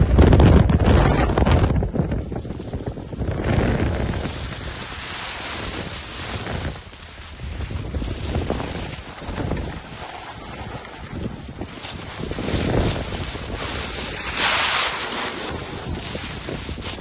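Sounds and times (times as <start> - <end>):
wind buffeting microphone: 0.0 - 17.0
skis scraping on snow: 1.2 - 17.0.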